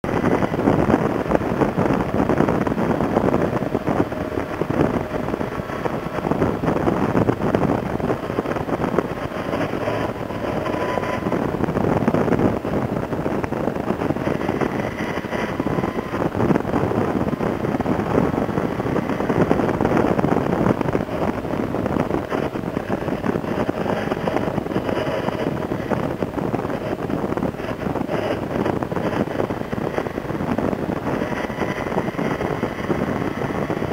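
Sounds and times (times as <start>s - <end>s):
motorcycle engine running: 0.0s - 33.9s
wind rushing over microphone: 0.0s - 33.9s.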